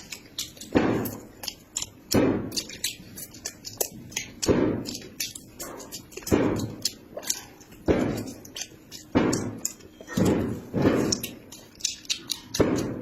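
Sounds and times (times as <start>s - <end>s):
mouth clicks: 0.0s - 13.0s
person chewing food: 0.0s - 13.0s.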